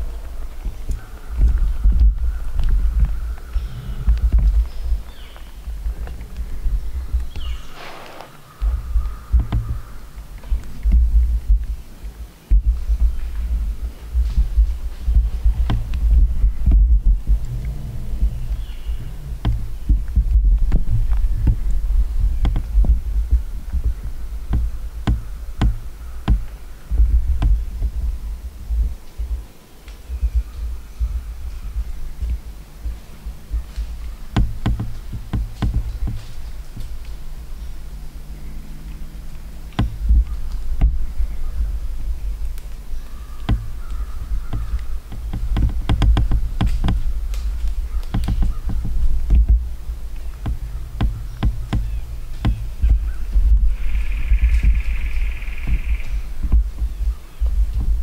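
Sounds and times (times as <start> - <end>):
low thumping rumble: 0.0 - 58.0
sharp crackles and snaps: 0.0 - 58.0
small knocks and clicks: 0.5 - 28.2, 31.4 - 58.0.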